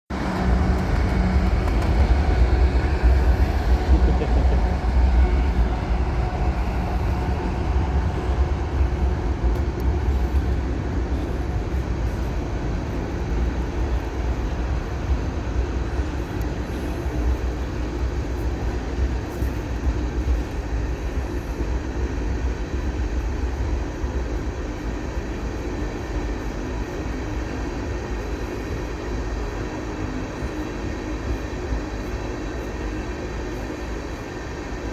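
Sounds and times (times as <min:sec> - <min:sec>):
freight train rumbling by: 0:00.1 - 0:34.9.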